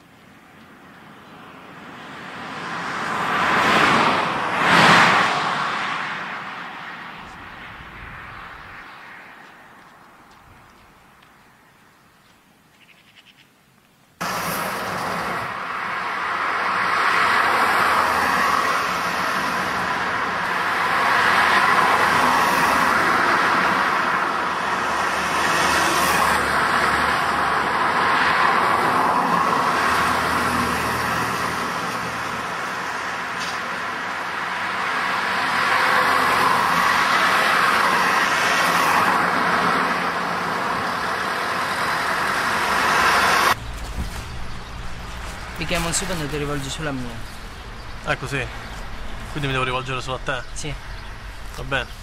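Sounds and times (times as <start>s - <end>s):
cars and trucks driving past: 0.4s - 11.7s, 14.2s - 52.0s.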